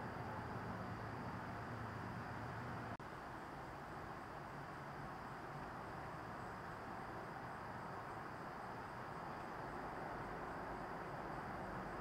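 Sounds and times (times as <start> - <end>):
outdoor hiss-like rumble: 0.0 - 12.0.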